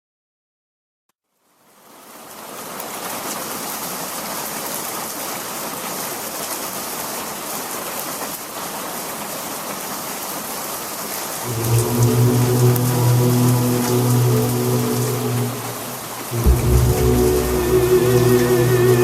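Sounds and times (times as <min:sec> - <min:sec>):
steady rain falling: 0:01.3 - 0:19.0.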